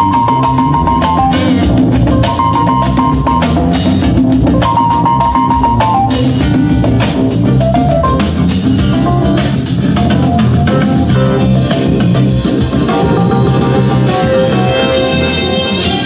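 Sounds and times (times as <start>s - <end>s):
band music with drums: 0.0s - 16.0s.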